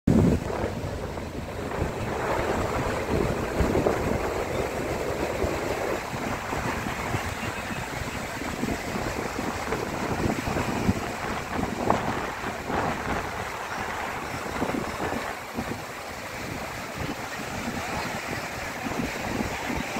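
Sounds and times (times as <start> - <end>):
surf breaking on shore: 0.1 - 19.9
wind buffeting microphone: 0.1 - 19.9.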